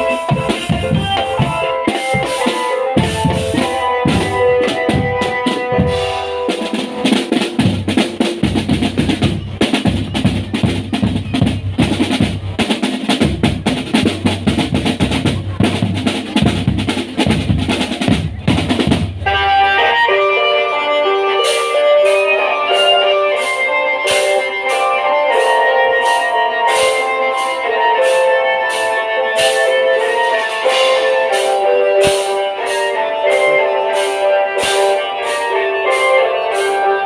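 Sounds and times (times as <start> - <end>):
melodic instruments: 0.0 - 17.3, 19.2 - 37.0
marching drums playing fast: 0.0 - 19.6, 21.4 - 36.7.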